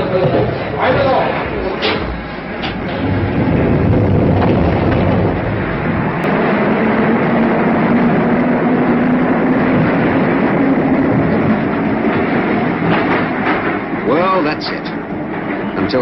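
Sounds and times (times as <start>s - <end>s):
underground train rumbling: 0.0s - 16.0s.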